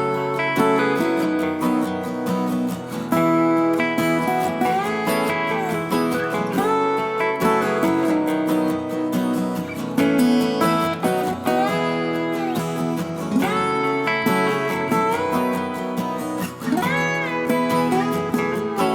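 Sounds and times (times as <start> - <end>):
strummed acoustic guitar: 0.0 - 18.9.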